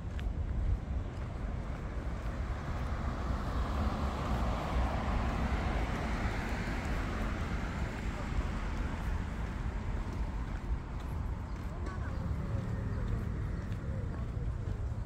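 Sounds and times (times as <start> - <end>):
road traffic rumble: 0.0 - 15.0
vehicle tyre noise: 0.0 - 15.0.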